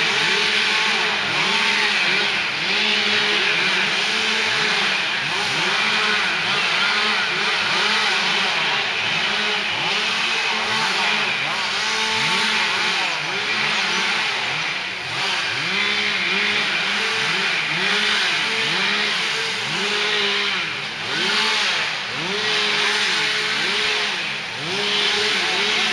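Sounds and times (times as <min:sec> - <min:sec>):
string trimmers revving: 0:00.0 - 0:25.9.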